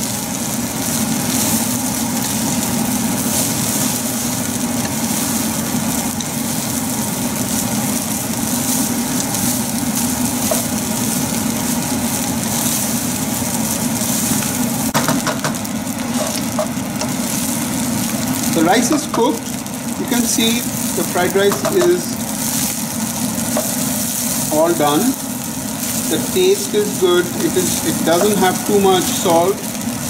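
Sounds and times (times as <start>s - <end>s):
rice stir-frying in a pan: 0.0s - 30.0s
steady hum with hiss: 0.0s - 30.0s.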